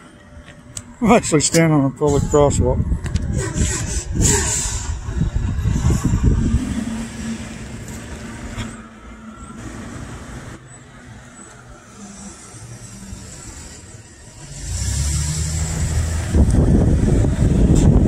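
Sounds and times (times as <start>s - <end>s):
heavy vehicle pulling up: 0.0s - 18.0s
vehicle engine running: 2.2s - 18.0s.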